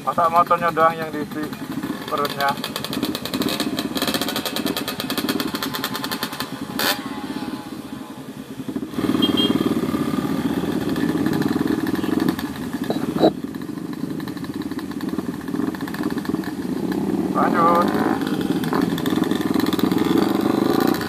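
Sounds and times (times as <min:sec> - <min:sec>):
motorcycle engines idling: 0:00.0 - 0:21.0
motorcycle pulling away: 0:00.0 - 0:21.0.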